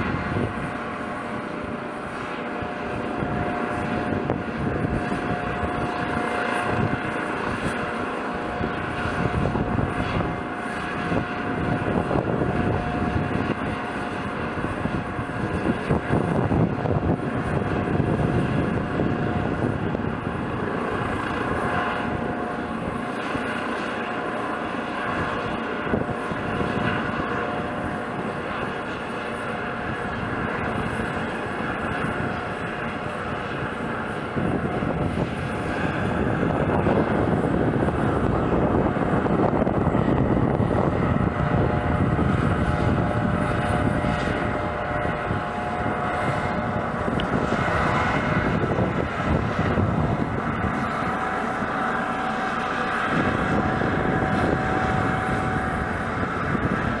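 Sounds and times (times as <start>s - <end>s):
helicopter rotor turning: 0.0s - 57.0s
helicopter turbine whine: 0.0s - 57.0s.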